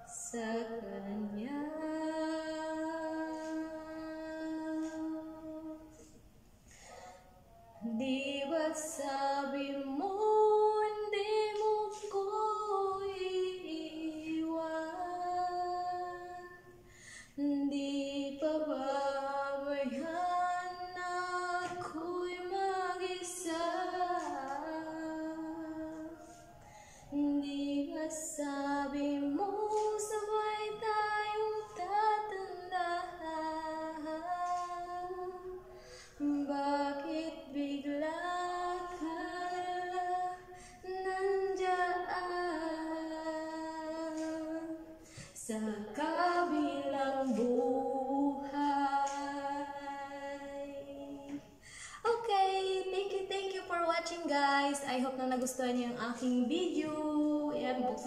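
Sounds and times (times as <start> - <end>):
woman singing into microphone: 0.0 - 7.0, 7.8 - 58.0.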